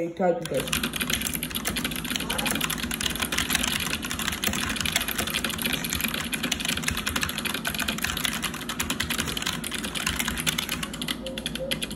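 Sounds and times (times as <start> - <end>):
typing on mechanical keyboard: 0.4 - 11.9.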